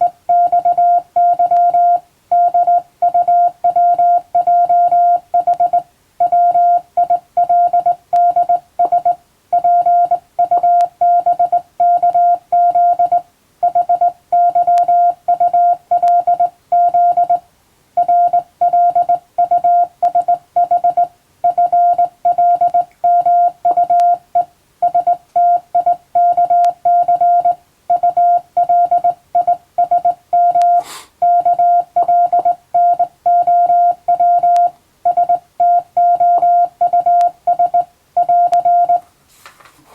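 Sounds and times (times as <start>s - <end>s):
morse code tone: 0.0s - 17.4s, 18.0s - 39.0s.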